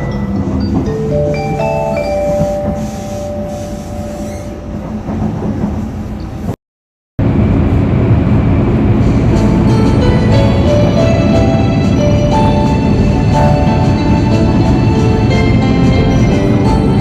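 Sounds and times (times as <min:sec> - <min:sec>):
train carriage rumble: 0:00.0 - 0:06.6, 0:07.2 - 0:17.0.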